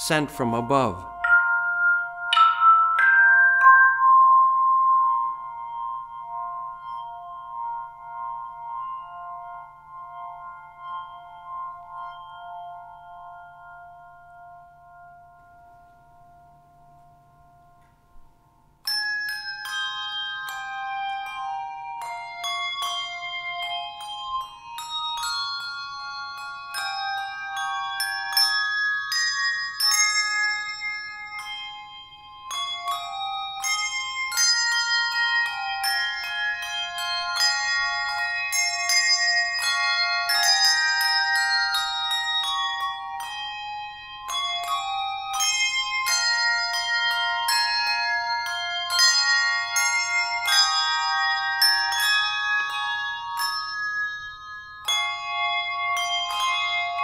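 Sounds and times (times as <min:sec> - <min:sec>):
handbell choir playing: 0:00.0 - 0:17.9, 0:18.8 - 0:57.0.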